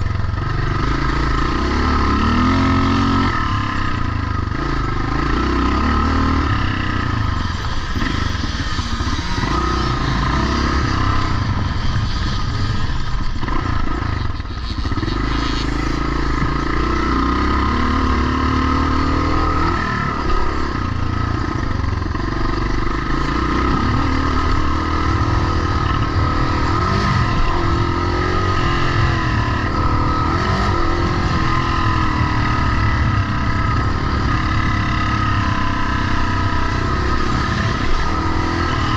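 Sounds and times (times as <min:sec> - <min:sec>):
motocross motorcycle engines revving: 0:00.0 - 0:38.9.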